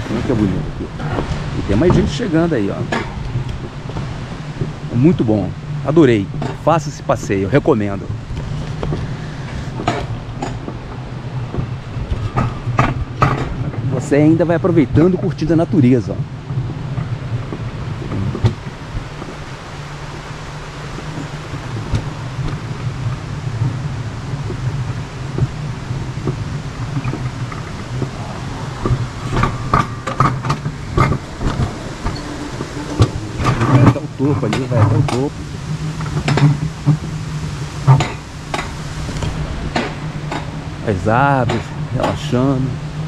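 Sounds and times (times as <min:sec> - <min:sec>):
sled wheels rumbling on rail: 0:00.0 - 0:43.0
rattling clicks and clacks: 0:00.4 - 0:20.3, 0:20.9 - 0:42.8.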